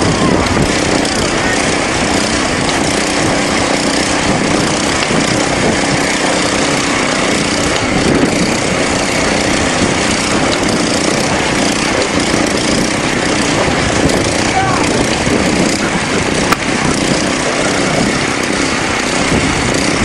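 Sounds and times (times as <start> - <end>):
garden tractor engines running: 0.0 - 20.0.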